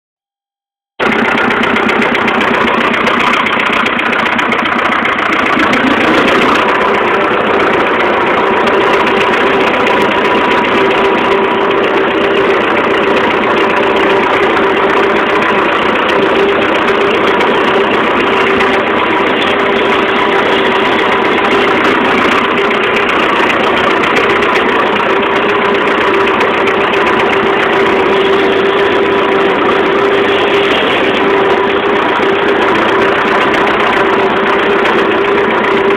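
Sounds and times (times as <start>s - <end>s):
tractor engine running steadily: 0.9s - 35.9s
steady tones: 1.0s - 35.9s.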